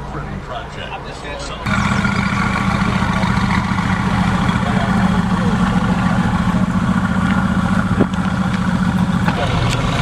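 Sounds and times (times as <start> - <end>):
car engine idling: 1.5 - 10.0.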